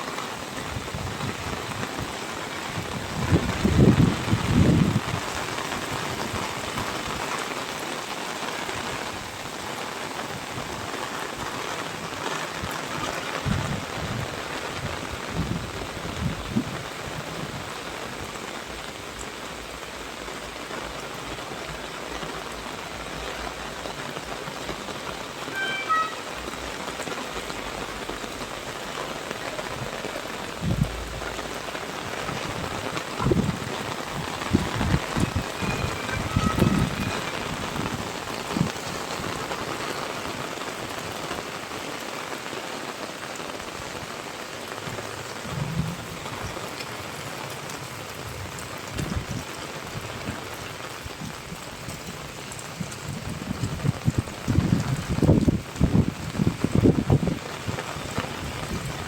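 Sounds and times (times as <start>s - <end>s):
rain hissing on surfaces: 0.0s - 59.0s.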